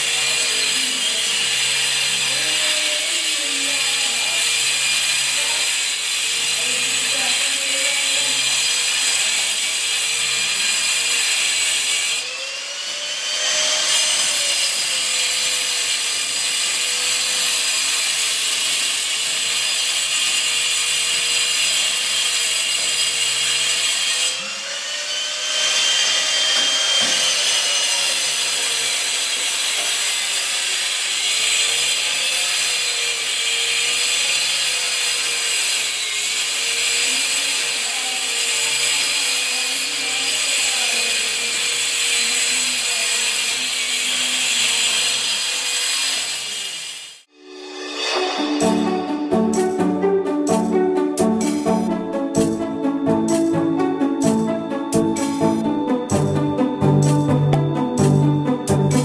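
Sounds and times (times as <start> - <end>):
angle grinder cutting tiles: 0.0 - 59.0.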